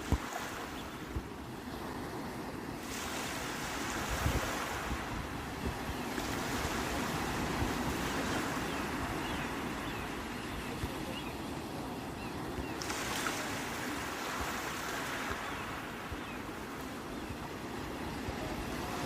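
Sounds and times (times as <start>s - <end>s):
sea waves washing in: 0.0s - 19.0s
wind buffeting microphone: 3.1s - 19.0s.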